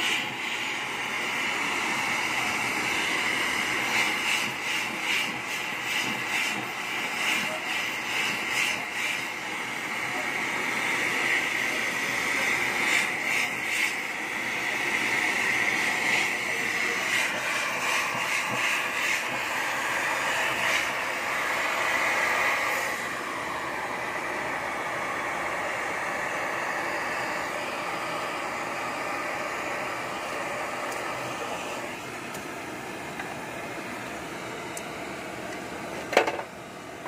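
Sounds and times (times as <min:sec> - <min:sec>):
gas torch flame hissing: 0:00.0 - 0:32.4.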